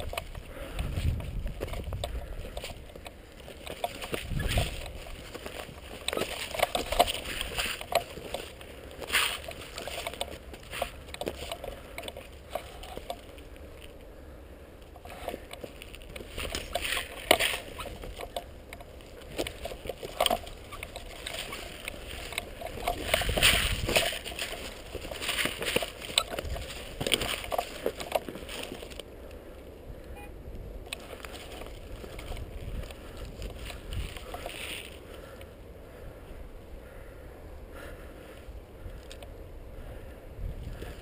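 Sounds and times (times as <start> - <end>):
footsteps crunching on gravel: 0.0 - 14.0, 14.8 - 29.1, 30.9 - 35.4.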